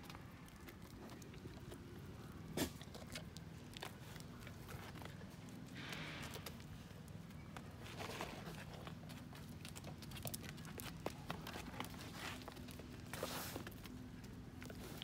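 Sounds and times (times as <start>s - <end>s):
hooves clicking on paving stones: 0.0s - 15.0s.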